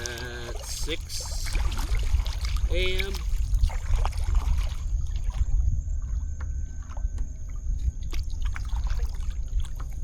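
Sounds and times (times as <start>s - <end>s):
water lapping against kayak: 0.0s - 10.0s
wind buffeting microphone: 0.0s - 10.0s.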